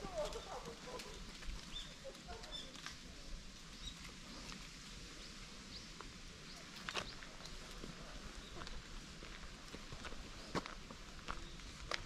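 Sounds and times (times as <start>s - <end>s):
footsteps on forest path: 0.0s - 12.0s.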